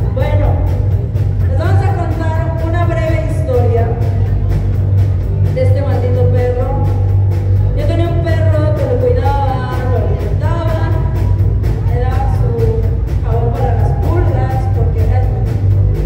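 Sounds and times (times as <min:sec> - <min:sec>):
bass guitar: 0:00.0 - 0:16.0
drum kit beat: 0:00.0 - 0:16.0.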